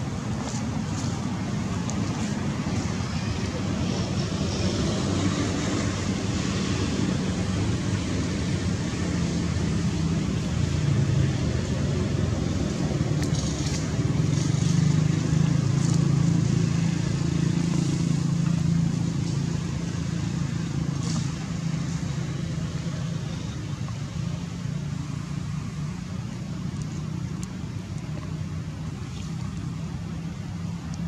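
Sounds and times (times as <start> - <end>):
distant traffic rumble: 0.0 - 31.0.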